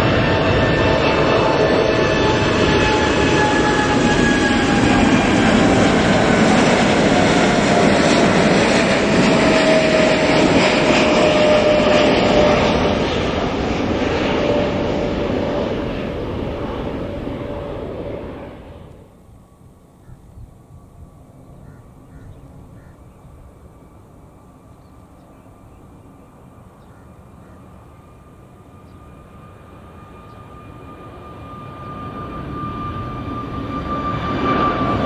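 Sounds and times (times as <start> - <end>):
jet plane climbing overhead: 0.0 - 35.0.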